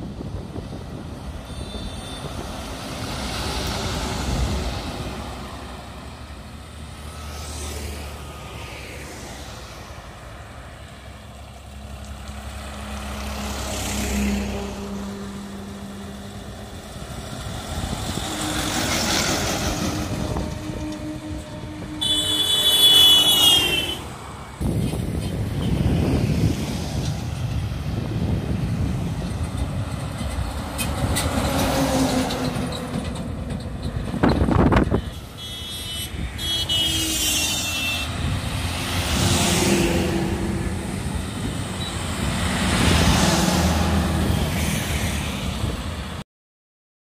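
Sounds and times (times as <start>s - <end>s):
vehicles passing on highway: 0.0s - 46.2s.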